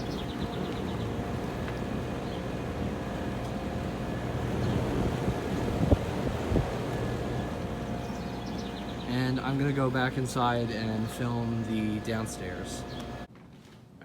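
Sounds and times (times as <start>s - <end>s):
air conditioner humming: 0.0s - 13.3s.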